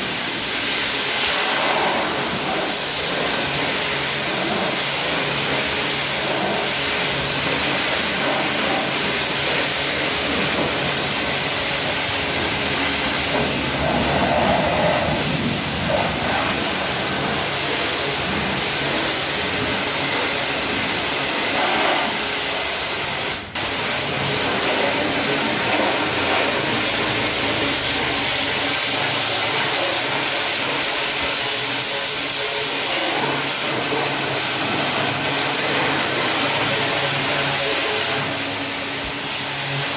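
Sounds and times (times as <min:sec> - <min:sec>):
high-pressure water spray hissing: 0:00.0 - 0:39.9.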